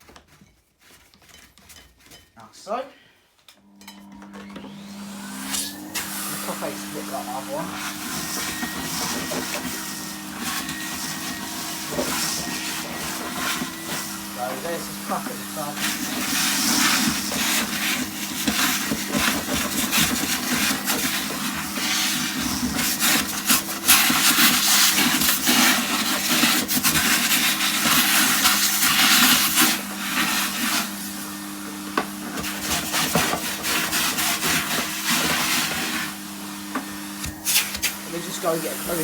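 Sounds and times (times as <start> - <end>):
vacuum cleaner motor hum: 3.6 - 39.0.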